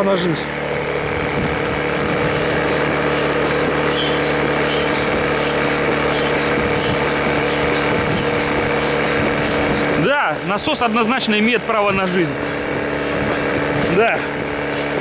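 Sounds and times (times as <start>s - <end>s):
electric air pump running: 0.0s - 15.0s.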